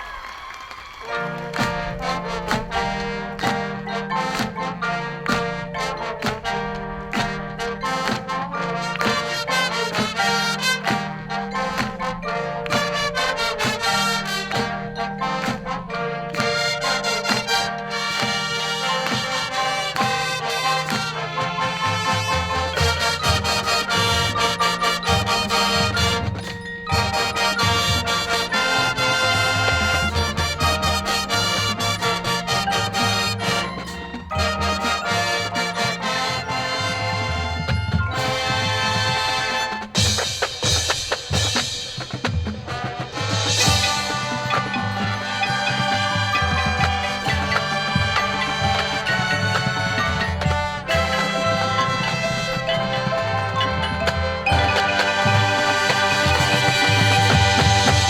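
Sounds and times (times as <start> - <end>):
drumline beat: 0.0 - 58.0
brass chords: 1.0 - 58.0.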